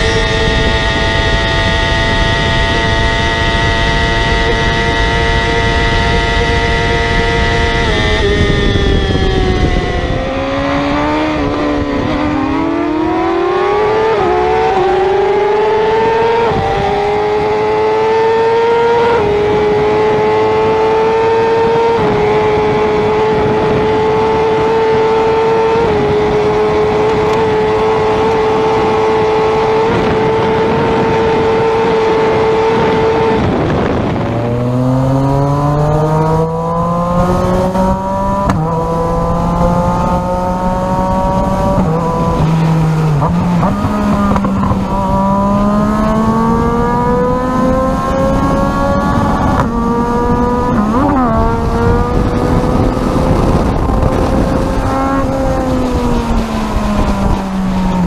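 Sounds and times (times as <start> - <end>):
rush of wind noise: 0.0 - 58.0
superbike engine at full throttle: 0.0 - 58.0.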